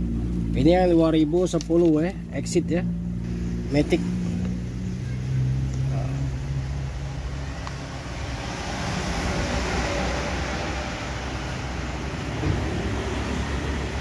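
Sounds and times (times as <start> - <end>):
low rumbling vehicle noise: 0.0 - 14.0.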